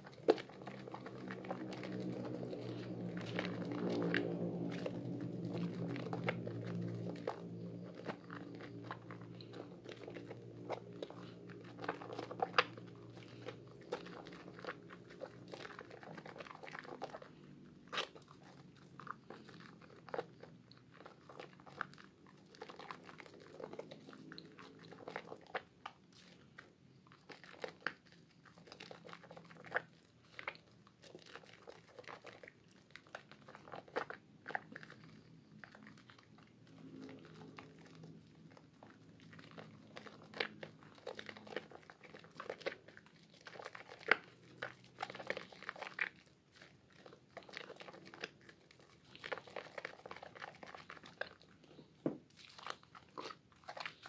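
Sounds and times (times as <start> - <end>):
hands squelching soapy lather: 0.0 - 54.0.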